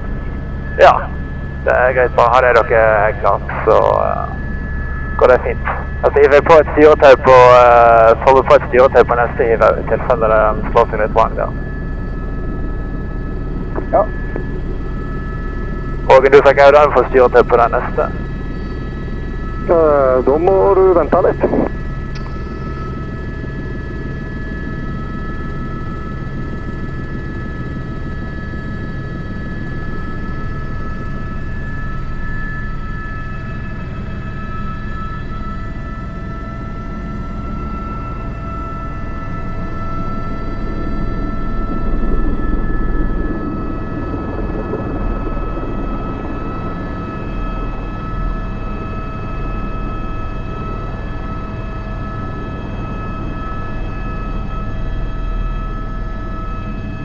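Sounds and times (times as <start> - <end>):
helicopter turbine and rotor: 0.0 - 57.0
thin steady whine: 0.0 - 57.0.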